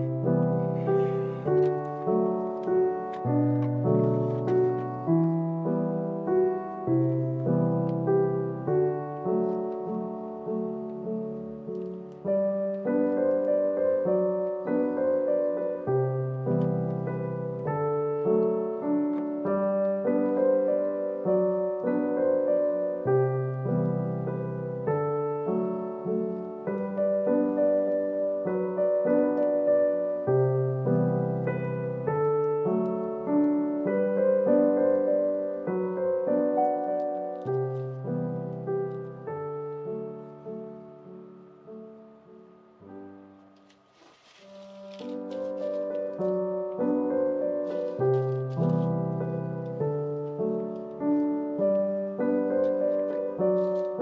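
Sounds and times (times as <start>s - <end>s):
gentle piano melody: 0.0s - 54.0s.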